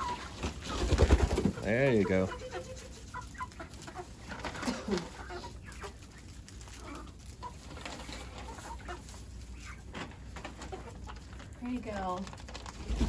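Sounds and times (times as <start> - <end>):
chickens clucking: 0.0 - 12.2.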